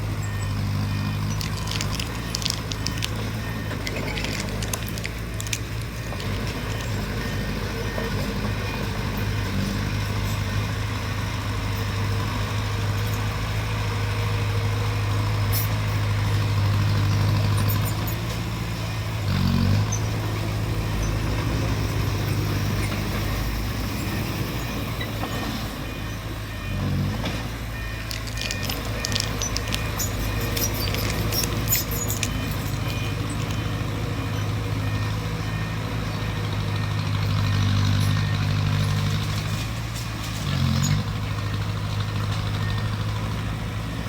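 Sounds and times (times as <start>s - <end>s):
bulldozer diesel engine droning: 0.0s - 44.0s.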